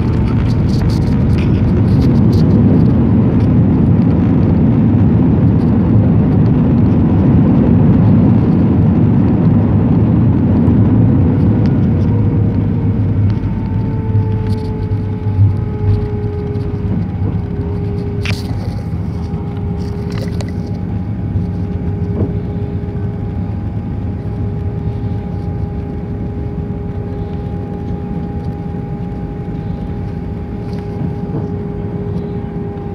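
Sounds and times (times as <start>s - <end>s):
idling jet engine whine: 0.0s - 32.9s
jet engines rumbling: 0.0s - 32.9s.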